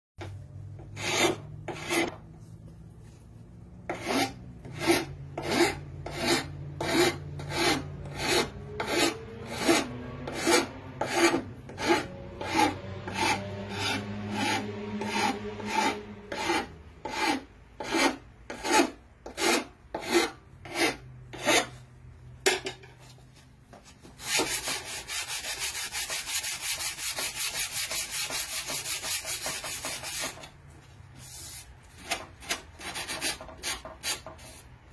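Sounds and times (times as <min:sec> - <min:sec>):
hand tool rasping wooden board: 0:00.2 - 0:02.2, 0:03.9 - 0:21.8, 0:24.2 - 0:30.6, 0:32.0 - 0:34.6.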